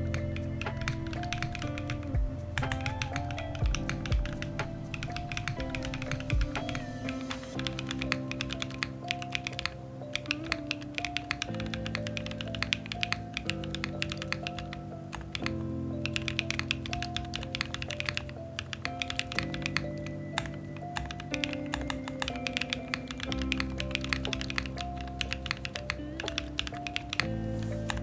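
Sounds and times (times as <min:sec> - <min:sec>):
background music: 0:00.0 - 0:28.0
mechanical keyboard typing: 0:00.0 - 0:28.0.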